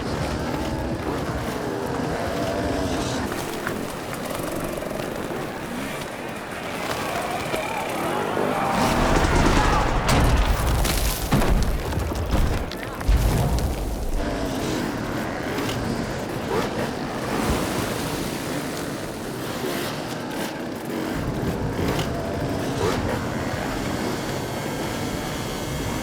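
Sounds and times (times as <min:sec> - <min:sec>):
many motorcycle engines revving: 0:00.0 - 0:26.0.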